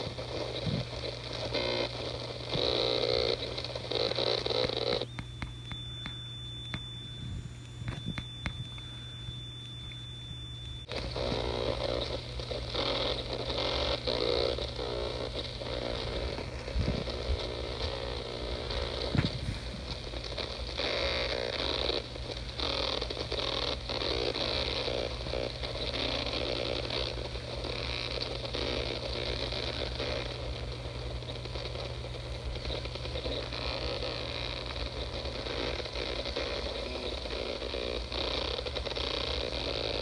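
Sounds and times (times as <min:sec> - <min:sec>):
distorted feedback-like noise: 0:00.0 - 0:40.0
low hum: 0:00.4 - 0:37.2.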